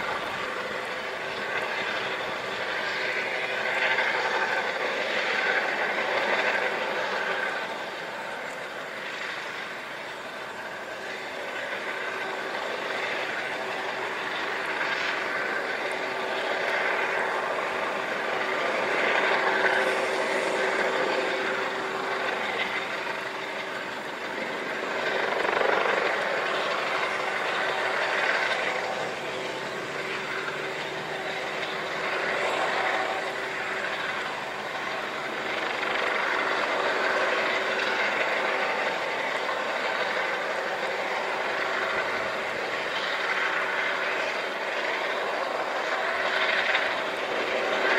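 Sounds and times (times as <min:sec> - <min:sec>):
helicopter running: 0:00.0 - 0:47.9.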